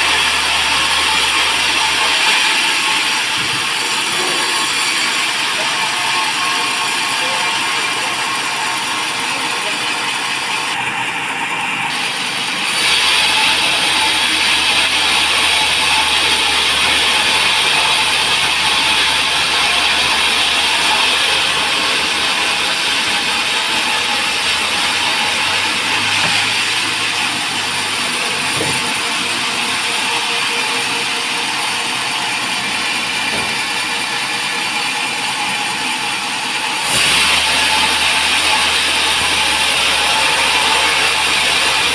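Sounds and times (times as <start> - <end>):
band saw cutting log: 0.0 - 41.9.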